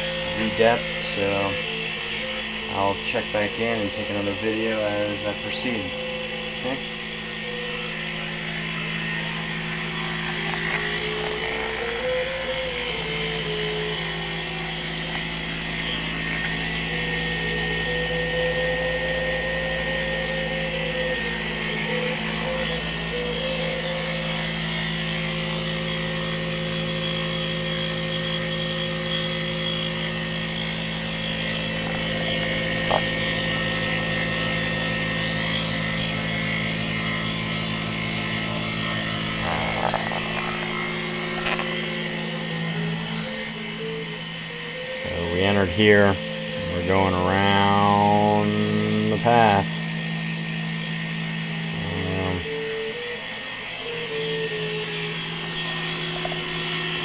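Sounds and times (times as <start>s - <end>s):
milling whine: 0.0s - 57.0s
spindle motor humming: 0.0s - 57.0s.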